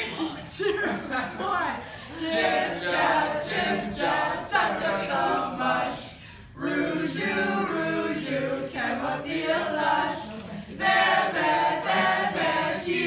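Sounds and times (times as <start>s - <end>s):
group singing a cappella: 1.9s - 13.0s.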